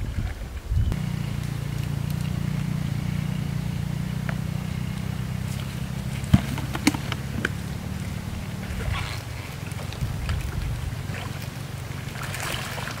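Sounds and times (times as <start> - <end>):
motor droning: 0.9 - 13.0.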